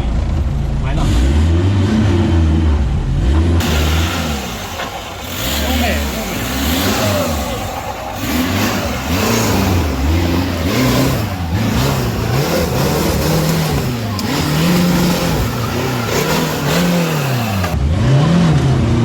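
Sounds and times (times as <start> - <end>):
engine revving up and down: 0.9 - 19.0.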